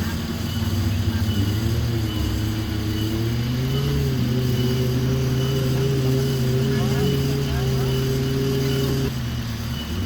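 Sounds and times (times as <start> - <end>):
off-road engine revving under load: 0.0 - 10.0.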